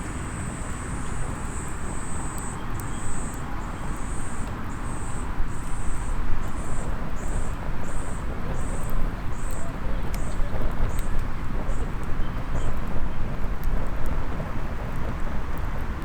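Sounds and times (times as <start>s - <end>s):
faint wood fire crackles: 0.0s - 16.0s.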